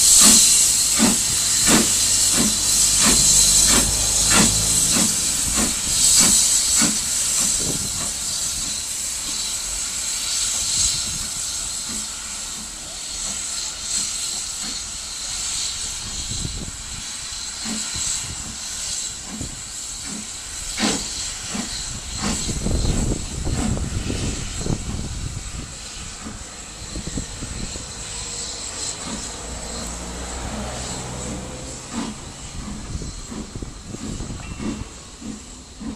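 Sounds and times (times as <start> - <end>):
steam hissing: 0.0 - 35.9
steam locomotive chuffing: 0.0 - 35.9
train rumble: 0.0 - 35.9.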